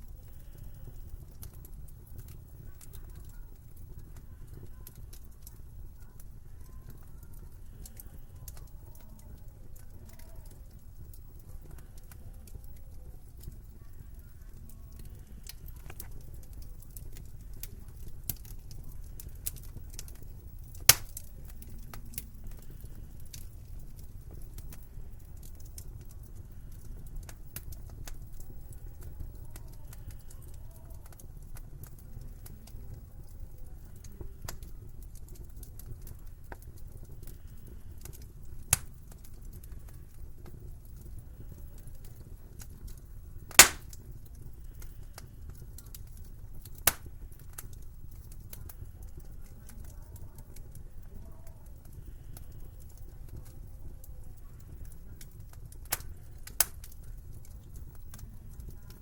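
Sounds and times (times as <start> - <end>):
fireplace fire crackling: 0.0 - 59.0
sharp pops from burning logs: 0.2 - 6.3, 9.7 - 53.7, 54.6 - 59.0.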